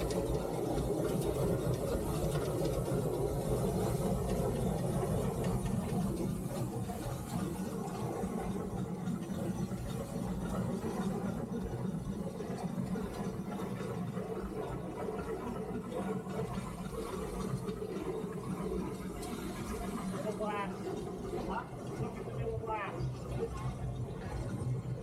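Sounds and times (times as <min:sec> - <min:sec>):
steam locomotive cab rumble: 0:00.0 - 0:25.0.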